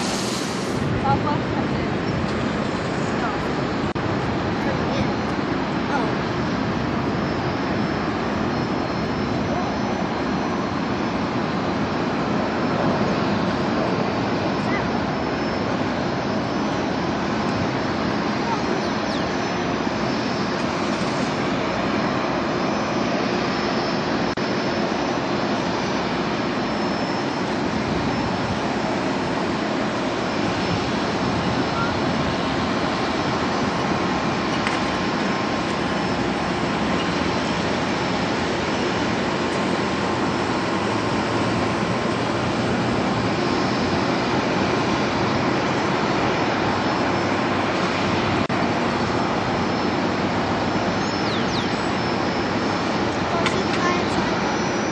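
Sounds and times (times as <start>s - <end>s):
jet engines at takeoff: 0.0s - 54.9s.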